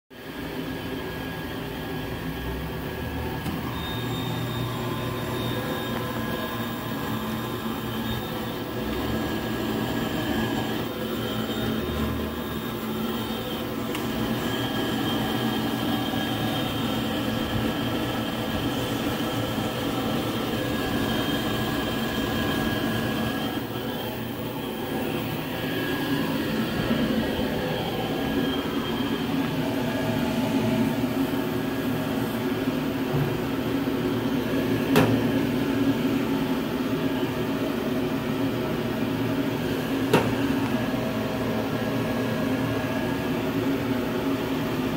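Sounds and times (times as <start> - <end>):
steady mechanical conveyor noise: 0.2 - 44.9
steady machine tones: 0.7 - 37.4.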